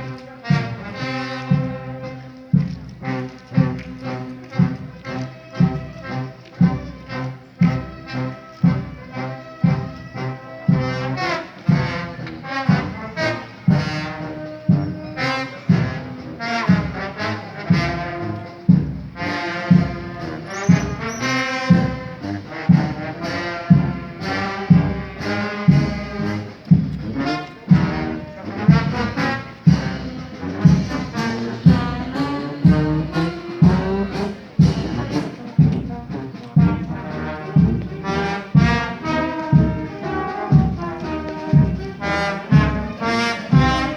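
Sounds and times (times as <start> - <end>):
brass band playing slow march: 0.0 - 43.9
drum beat: 0.0 - 43.9.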